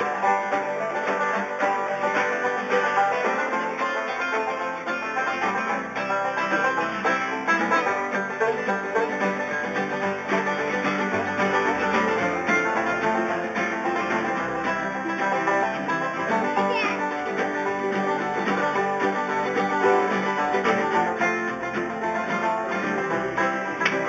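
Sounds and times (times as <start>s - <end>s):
string band playing: 0.0s - 24.0s.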